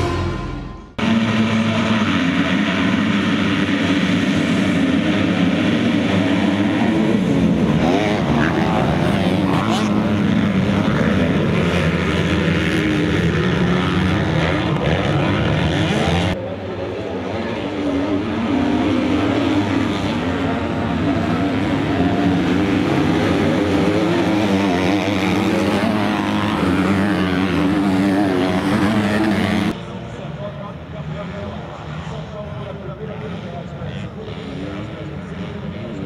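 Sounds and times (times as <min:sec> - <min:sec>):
motocross bikes revving: 0:00.9 - 0:30.0, 0:31.0 - 0:36.0.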